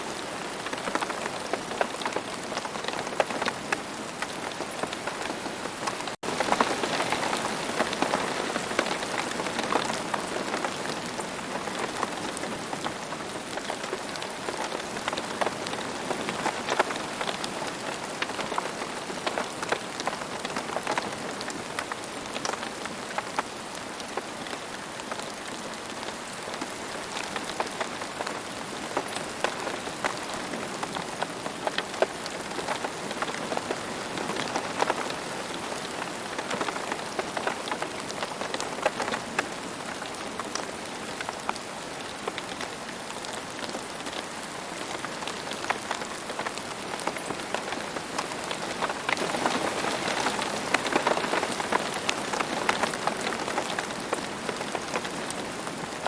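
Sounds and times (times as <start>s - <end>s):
rain pattering on hard surface: 0.0s - 56.0s.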